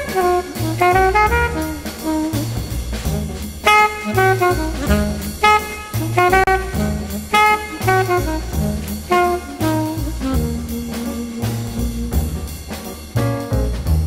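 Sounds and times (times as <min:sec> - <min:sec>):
jazz with horns and bass: 0:00.0 - 0:14.0.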